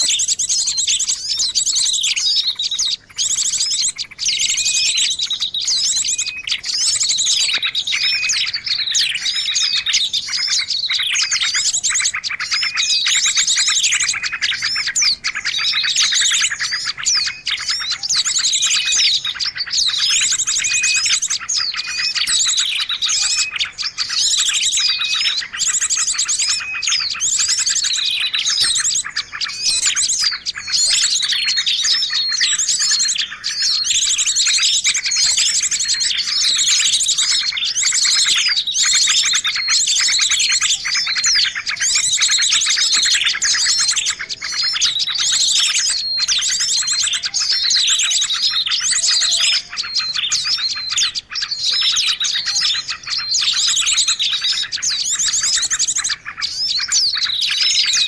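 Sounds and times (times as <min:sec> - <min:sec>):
faint lower bird call: 0:00.0 - 0:58.0
rapid high bird trill: 0:00.0 - 0:58.0
songbirds chirping chorus: 0:00.0 - 0:58.0.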